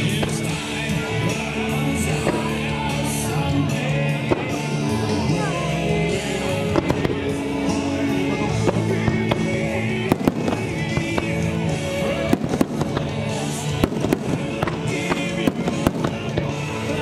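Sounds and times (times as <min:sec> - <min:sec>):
fireworks bangs: 0:00.0 - 0:05.1, 0:06.4 - 0:17.0
music with long held notes: 0:00.0 - 0:17.0.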